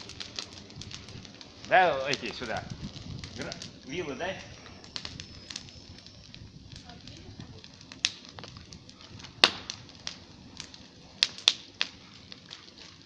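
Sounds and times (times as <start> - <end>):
burning wood popping and snapping: 0.0 - 13.0
low fire hiss: 0.0 - 13.0.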